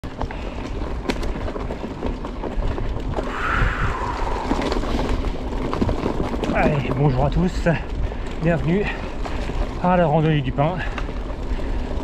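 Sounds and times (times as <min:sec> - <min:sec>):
bike knocking and rattling: 0:00.0 - 0:12.0
low wind rumble: 0:00.0 - 0:12.0.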